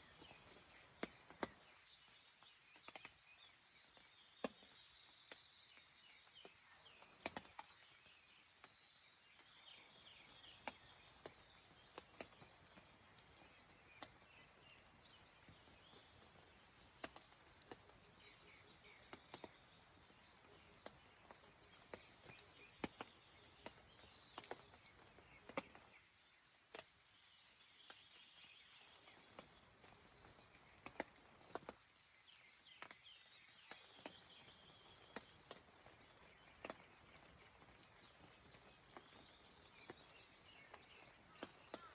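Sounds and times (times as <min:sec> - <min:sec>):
raindrops dripping and tapping: 0:00.0 - 0:41.9
small birds chirping: 0:00.0 - 0:41.9.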